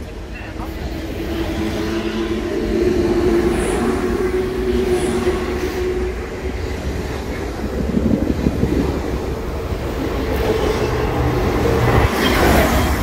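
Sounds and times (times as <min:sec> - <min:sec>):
train rolling rumble: 0:00.0 - 0:13.0.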